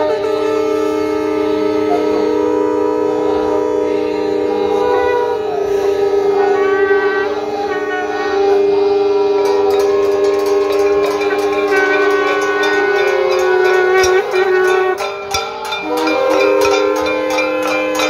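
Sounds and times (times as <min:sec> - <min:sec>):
conch shells blown together: 0:00.0 - 0:18.0.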